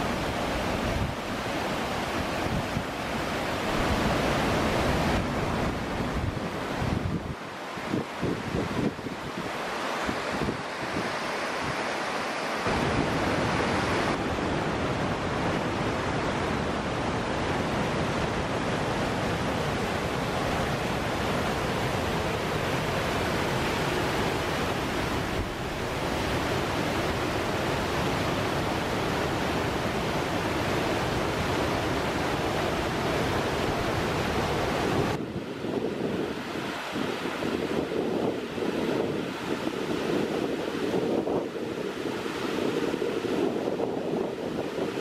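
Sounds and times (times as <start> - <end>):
rapids rushing over rocks: 0.0 - 45.0.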